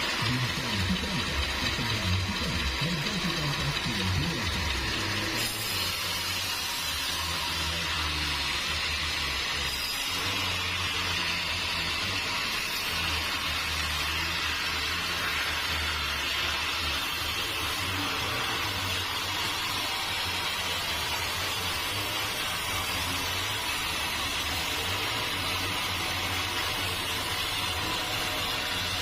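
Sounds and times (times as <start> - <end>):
sawmill machinery running: 0.0 - 29.0.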